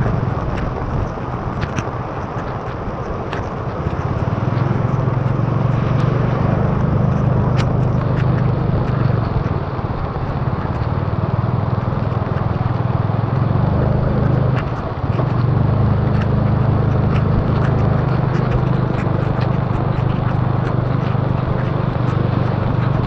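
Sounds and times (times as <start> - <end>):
motorbike engine running: 0.0 - 23.0
raindrops tapping on camera: 0.0 - 23.0
tyres on wet road: 0.0 - 23.0
wind: 0.0 - 23.0.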